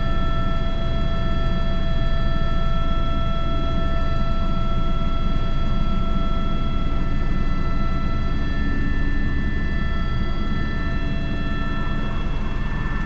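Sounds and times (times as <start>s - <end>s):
helicopter rotor and engine rumble: 0.0s - 13.0s
high turbine whine: 0.0s - 13.0s.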